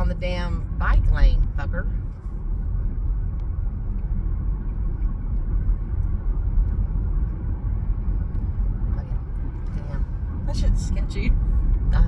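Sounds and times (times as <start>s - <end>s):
car engine rumble: 0.0s - 12.0s
tyre road noise: 0.0s - 12.0s.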